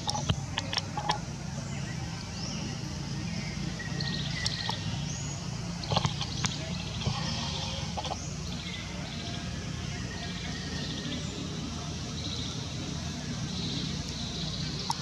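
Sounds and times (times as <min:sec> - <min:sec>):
low background hum: 0:00.0 - 0:15.0
small birds chirping and trilling: 0:00.0 - 0:15.0.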